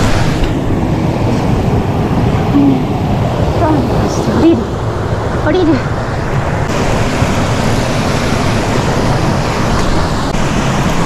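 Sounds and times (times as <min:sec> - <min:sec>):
stream rapids rushing: 0:00.0 - 0:11.0.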